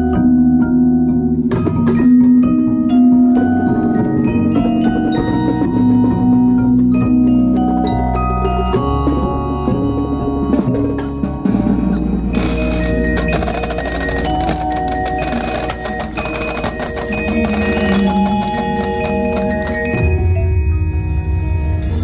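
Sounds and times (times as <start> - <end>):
deep low percussion part: 0.0 - 22.0
marimba and mallet percussion: 0.0 - 22.0.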